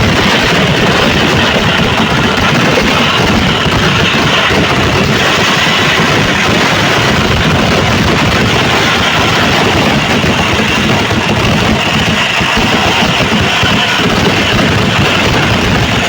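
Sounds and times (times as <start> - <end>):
firecrackers going off: 0.0 - 16.0.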